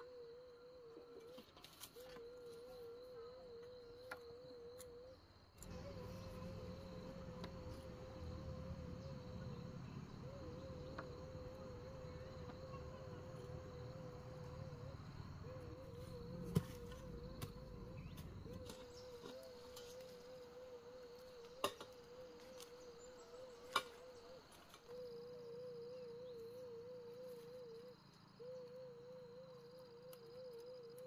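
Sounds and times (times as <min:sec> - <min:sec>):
warbling insect drone: 0:02.2 - 0:31.0.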